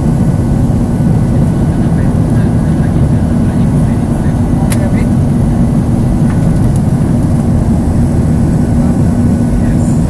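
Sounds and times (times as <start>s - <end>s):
airplane cabin engine drone: 0.0s - 10.0s.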